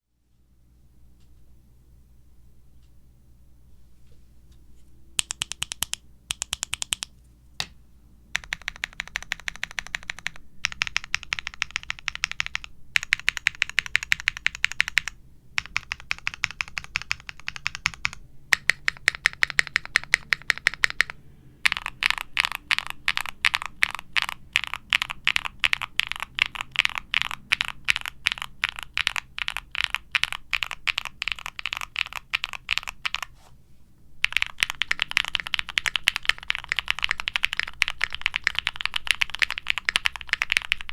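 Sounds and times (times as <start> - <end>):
fast typing on mechanical keyboard: 5.2 - 7.1, 8.4 - 33.3, 34.2 - 40.9.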